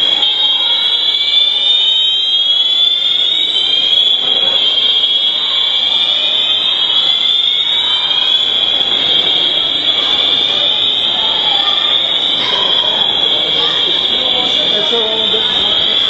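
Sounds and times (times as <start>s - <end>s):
fire alarm tone: 0.0s - 16.0s.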